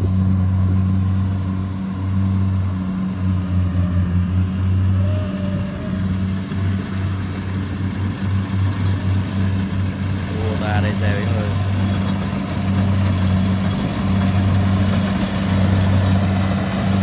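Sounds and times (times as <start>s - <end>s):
diesel engine droning under load: 0.0s - 17.0s.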